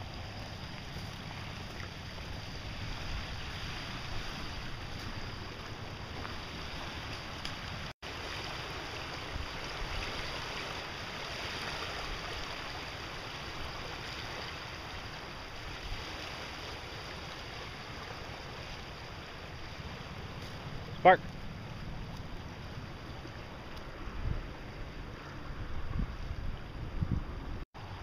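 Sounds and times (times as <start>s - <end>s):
river rushing over rapids: 0.0s - 25.6s
wind rumbling on microphone: 0.0s - 28.0s.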